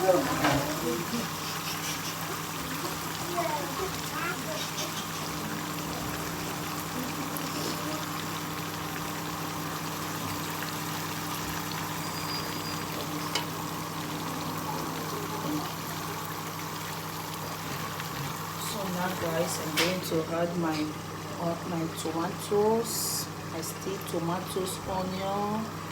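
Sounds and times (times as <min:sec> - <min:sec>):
food sizzling in a pot: 0:00.0 - 0:25.8.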